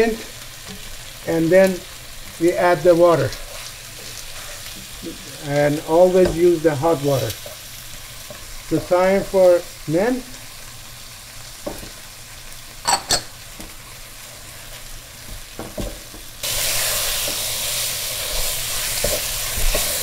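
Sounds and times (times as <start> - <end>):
meat sizzling in a pan: 0.0 - 20.0.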